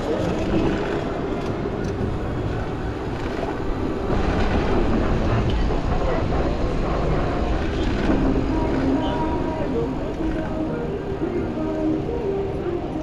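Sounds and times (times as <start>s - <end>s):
street traffic: 0.0s - 13.0s
streetcar rumble: 0.0s - 13.0s.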